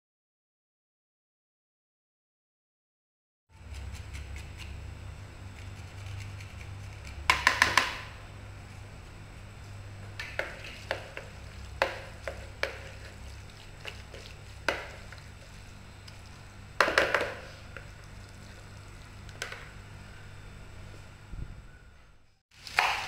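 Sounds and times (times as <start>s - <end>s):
low steady hum: 3.5s - 23.0s.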